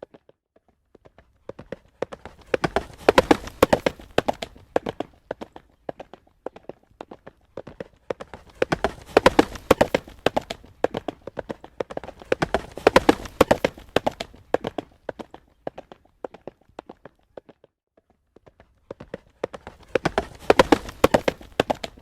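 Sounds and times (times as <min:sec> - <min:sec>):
horse hooves trotting on road: 0:00.0 - 0:22.0.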